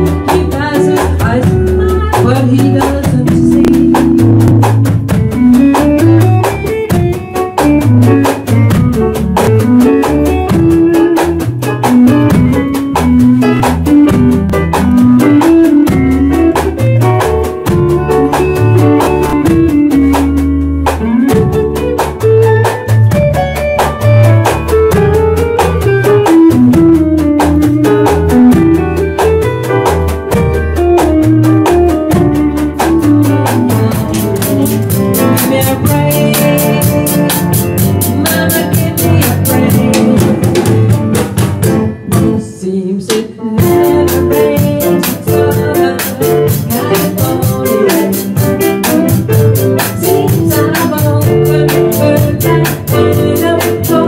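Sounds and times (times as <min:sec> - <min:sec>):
bass notes: 0:00.0 - 0:42.8, 0:43.4 - 0:54.0
drum kit beat: 0:00.0 - 0:54.0
electric guitar lead line: 0:00.0 - 0:54.0.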